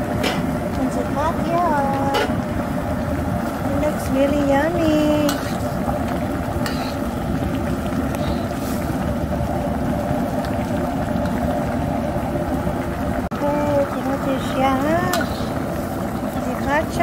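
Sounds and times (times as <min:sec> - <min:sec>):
soup boiling hard in a wok: 0:00.0 - 0:17.0.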